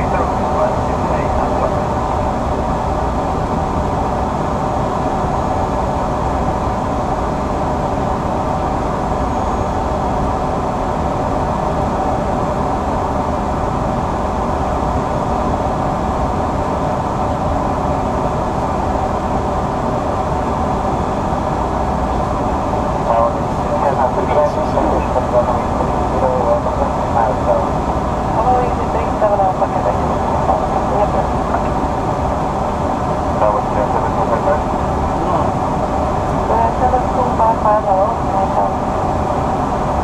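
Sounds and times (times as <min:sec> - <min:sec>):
jet engine hum: 0:00.0 - 0:40.0.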